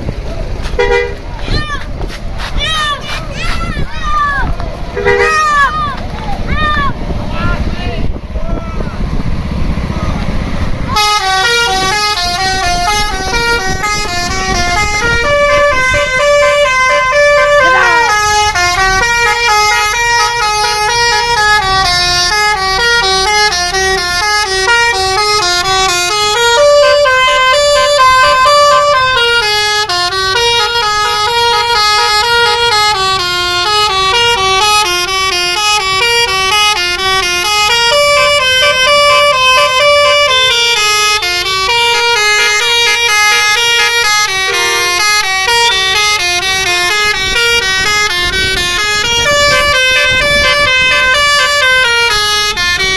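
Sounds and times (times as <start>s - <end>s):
bus musical horn melody: 0.6s - 1.2s, 4.9s - 5.8s, 10.9s - 52.9s.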